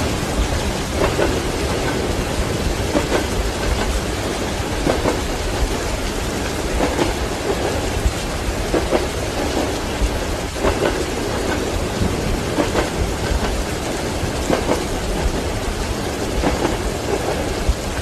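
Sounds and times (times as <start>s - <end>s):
steady rain: 0.0s - 18.0s
train wheels clacking: 0.0s - 18.0s.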